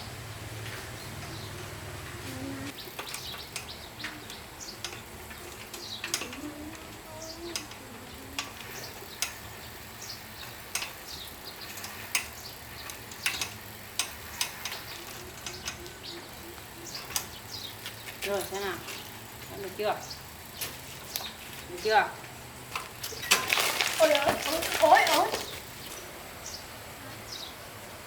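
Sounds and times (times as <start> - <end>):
faint birds chirping: 0.0 - 23.4, 24.0 - 28.0.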